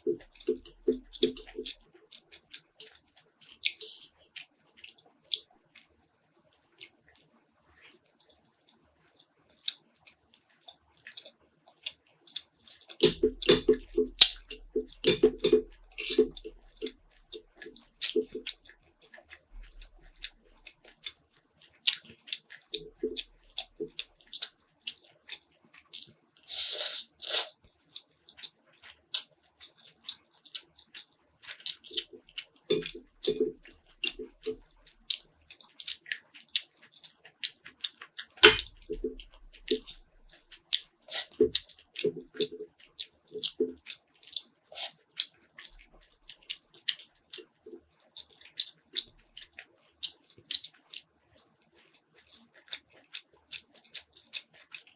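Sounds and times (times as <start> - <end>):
wet chewing and mouth clicks: 0.0 - 7.2, 7.8 - 54.9.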